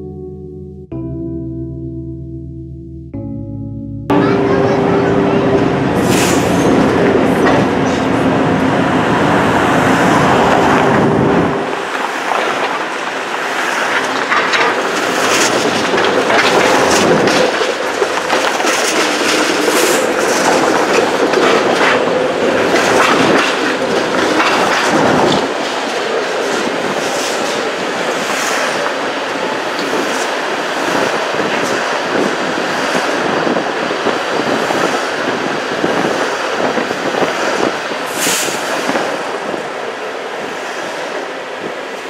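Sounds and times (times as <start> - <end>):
streetcar drive tone and rumble: 0.0 - 42.0
wheels clacking over rail joints: 4.4 - 42.0.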